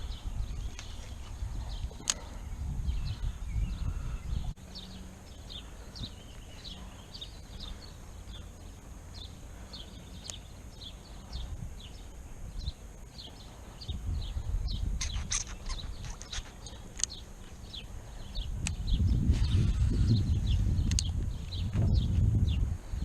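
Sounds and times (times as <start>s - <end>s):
bird chirping: 0.0s - 22.7s
low wind rumble on microphone: 0.0s - 23.0s.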